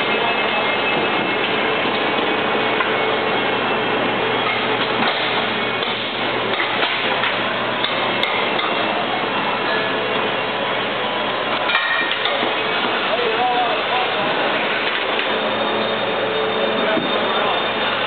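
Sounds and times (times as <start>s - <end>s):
low machinery hum: 0.0s - 18.0s.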